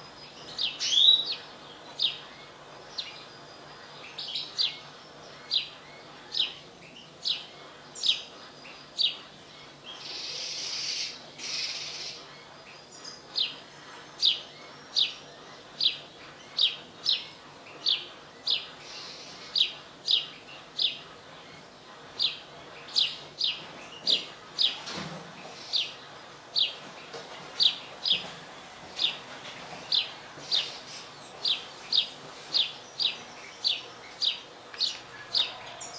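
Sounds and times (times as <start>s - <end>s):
bird chirping: 0.0s - 35.9s.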